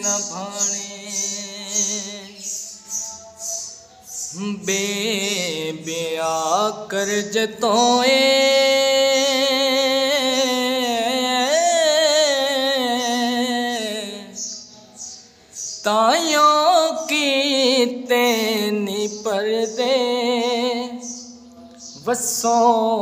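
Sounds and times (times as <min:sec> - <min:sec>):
person singing: 0:00.0 - 0:14.6, 0:15.8 - 0:23.0.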